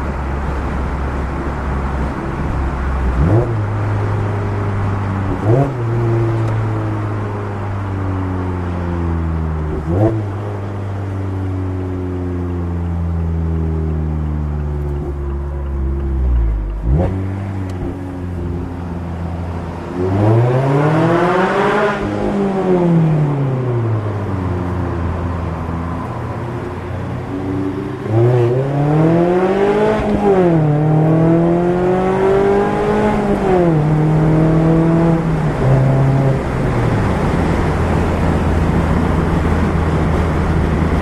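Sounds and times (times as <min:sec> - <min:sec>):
car engine revving and accelerating: 0:00.0 - 0:41.0.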